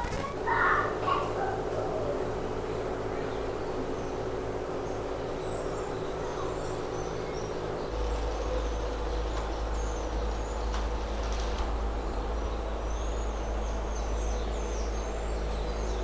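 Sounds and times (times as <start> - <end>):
birds chirping: 0.0 - 16.0
steady hum: 0.0 - 16.0.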